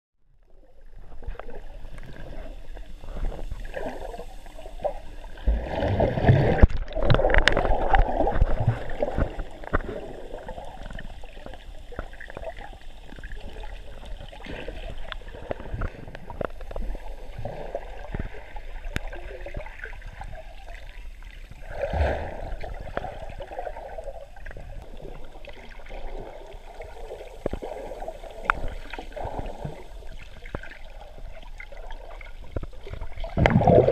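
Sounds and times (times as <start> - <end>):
muffled underwater water bubbling: 0.3 - 33.9
small underwater clicks and crackles: 0.3 - 33.9.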